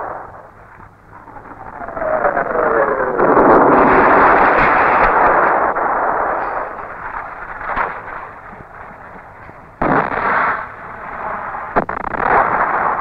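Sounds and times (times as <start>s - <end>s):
shell explosions: 0.0s - 13.0s.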